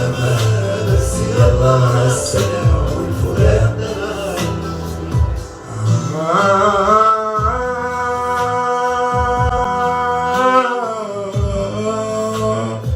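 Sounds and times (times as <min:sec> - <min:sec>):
bass notes: 0:00.0 - 0:10.5, 0:11.4 - 0:12.9
man singing long held note: 0:00.0 - 0:12.9.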